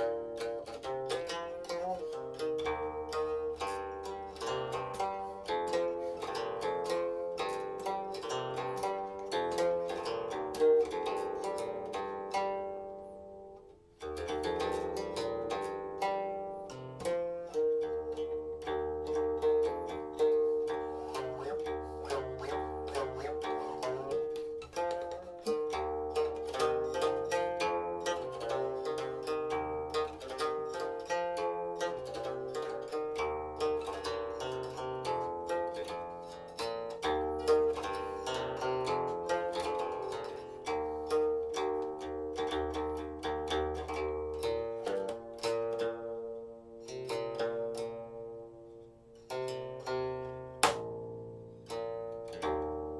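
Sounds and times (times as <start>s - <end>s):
plucked zither notes sliding: 0.0s - 52.9s.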